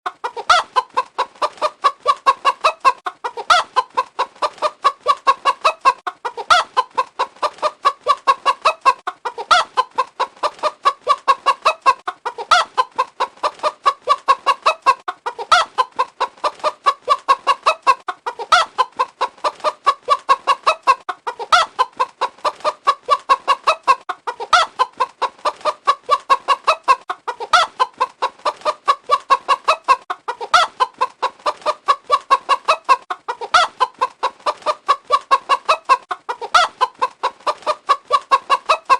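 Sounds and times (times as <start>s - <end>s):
chicken clucking: 0.1s - 38.9s.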